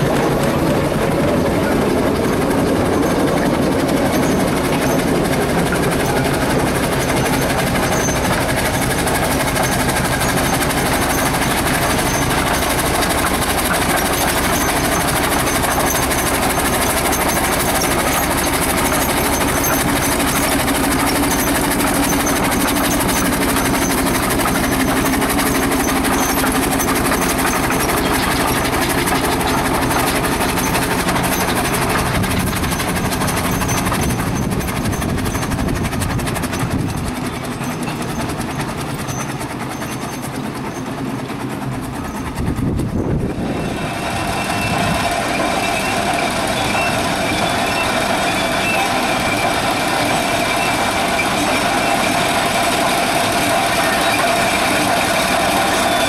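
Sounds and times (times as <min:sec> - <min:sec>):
steam vehicle mechanical noise: 0:00.0 - 0:56.0.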